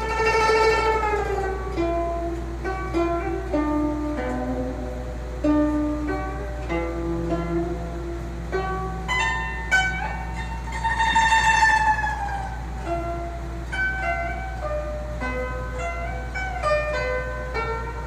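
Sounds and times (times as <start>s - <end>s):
plucked zither melody: 0.0s - 18.0s
steady low hum: 0.0s - 18.0s.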